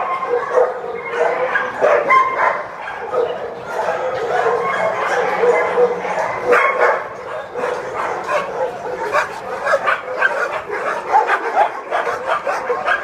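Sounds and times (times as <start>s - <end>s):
dogs barking and yelping: 0.0s - 13.0s
dogs whimpering: 0.0s - 13.0s.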